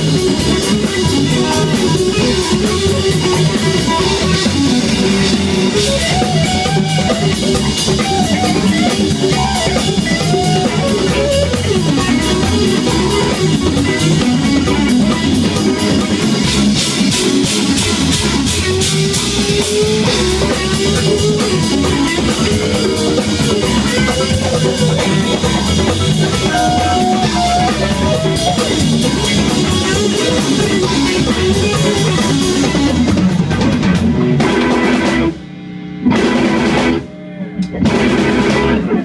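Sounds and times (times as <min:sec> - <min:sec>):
bass guitar: 0:00.0 - 0:39.0
drum kit: 0:00.0 - 0:39.0
electric guitar lead lines: 0:00.0 - 0:39.0.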